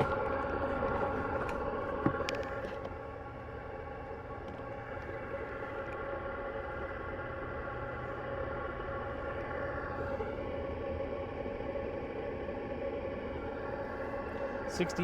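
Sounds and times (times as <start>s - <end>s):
diesel air heater humming: 0.0s - 15.0s.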